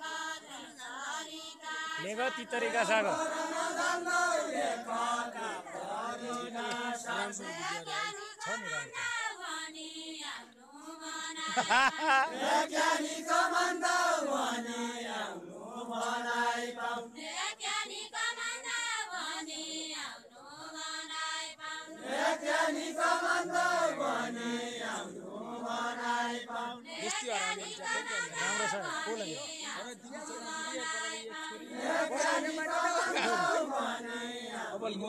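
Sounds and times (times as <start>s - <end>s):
group singing folk song: 0.0s - 35.0s.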